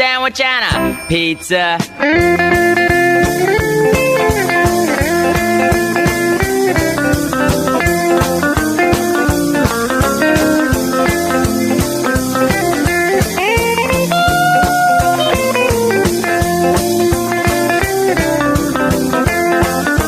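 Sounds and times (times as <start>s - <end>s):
lead guitar bending notes: 0.7s - 20.0s
drum and bass beat: 1.8s - 20.0s.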